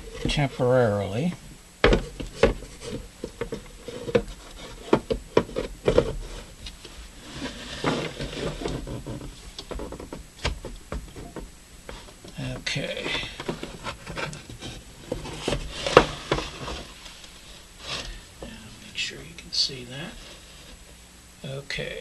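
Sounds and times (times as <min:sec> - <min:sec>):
chassis scraping: 0:02.0 - 0:10.2, 0:11.1 - 0:21.0.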